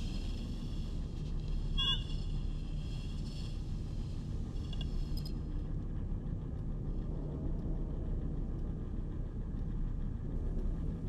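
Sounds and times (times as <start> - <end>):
low rumbling drone: 0.0 - 11.0.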